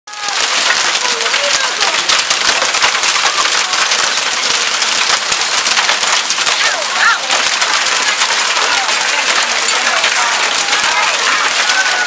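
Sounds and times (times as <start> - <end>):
hail and rain on concrete: 0.1 - 12.0.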